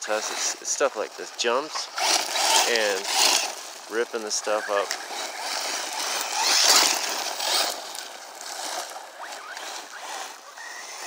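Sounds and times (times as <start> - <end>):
electric motor whines: 1.8 - 11.0.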